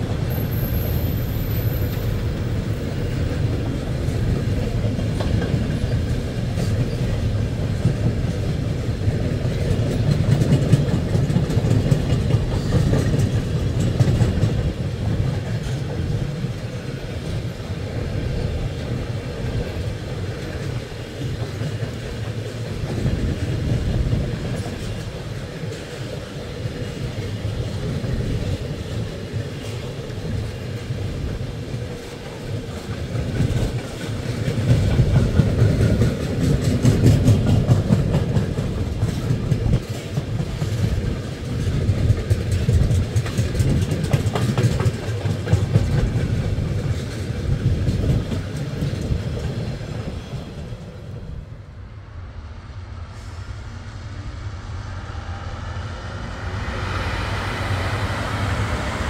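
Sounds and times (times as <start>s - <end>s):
freight train wheels clattering: 0.0s - 51.4s
diesel locomotive low rumble: 0.0s - 59.0s.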